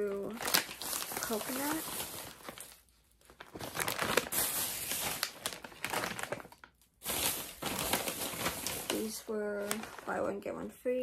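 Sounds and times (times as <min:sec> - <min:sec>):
plastic pouches crinkling: 0:00.0 - 0:10.5.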